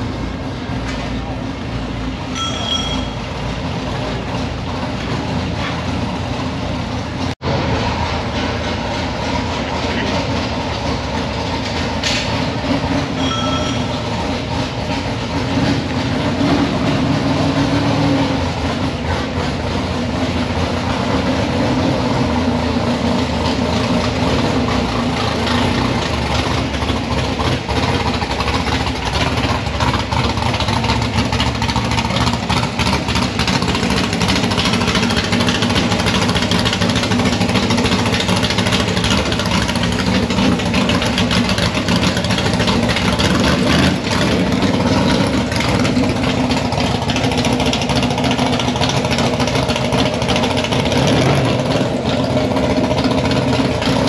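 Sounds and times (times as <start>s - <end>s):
car engines rumbling: 0.0s - 54.0s.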